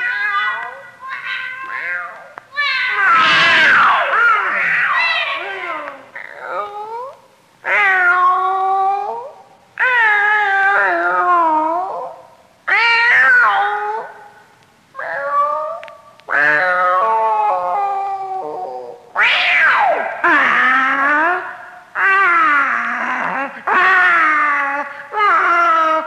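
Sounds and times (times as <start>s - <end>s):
cats yowling: 0.0s - 14.3s, 15.0s - 26.0s.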